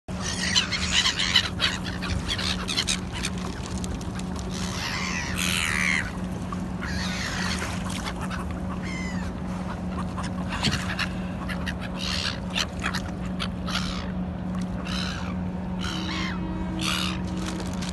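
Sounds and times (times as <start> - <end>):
low hum: 0.1 - 17.9
seagulls calling: 0.1 - 17.9.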